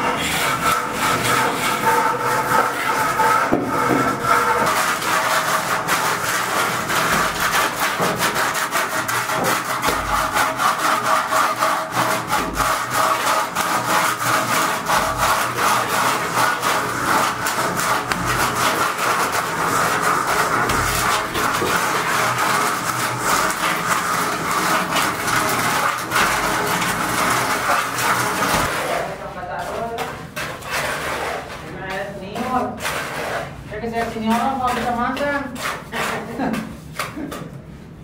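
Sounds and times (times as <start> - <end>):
trowel scraping cement render: 0.0 - 37.6.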